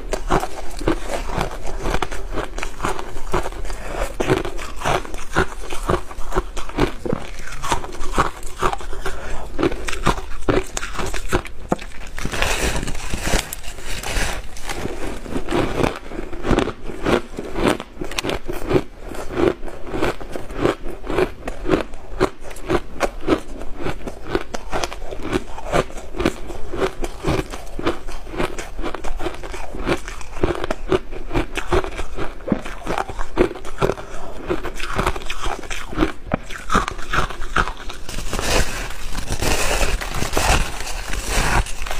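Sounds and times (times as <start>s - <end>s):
ice crunching being chewed: 0.0s - 41.9s.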